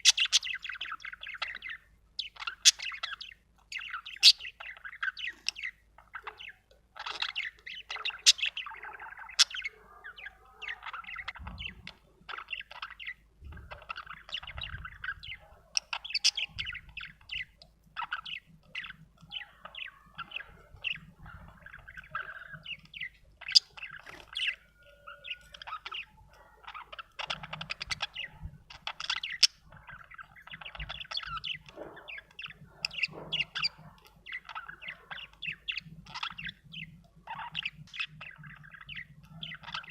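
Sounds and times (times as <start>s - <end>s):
budgerigar chirping and warbling: 0.0s - 39.9s.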